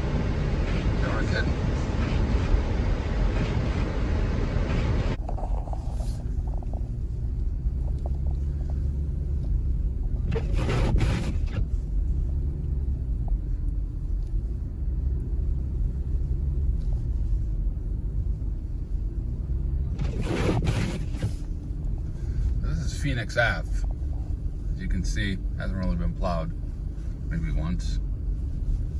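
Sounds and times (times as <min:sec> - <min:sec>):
car engine and tyres rumbling: 0:00.0 - 0:28.9.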